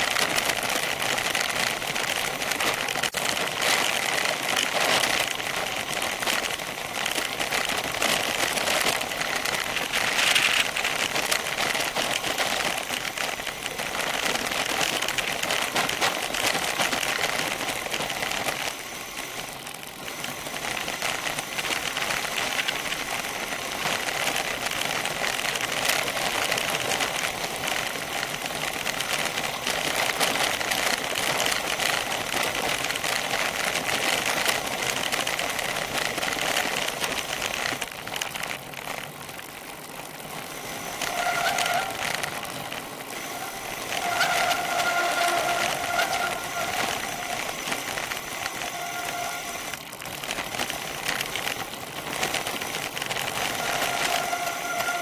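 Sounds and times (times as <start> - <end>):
bicycle tyres rattling on gravel: 0.0 - 55.0.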